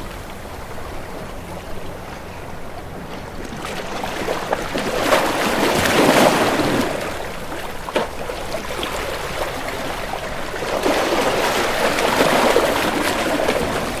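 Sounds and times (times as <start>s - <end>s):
water rushing and splashing: 0.0s - 14.0s.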